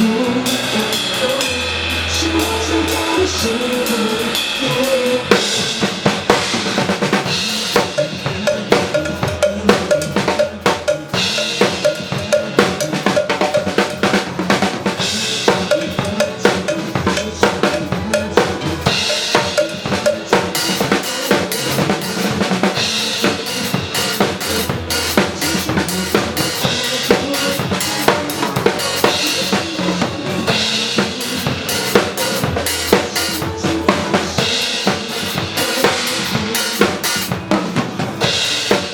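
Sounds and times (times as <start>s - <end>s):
drum kit groove: 0.0s - 38.9s
pitched backing music: 0.0s - 38.9s.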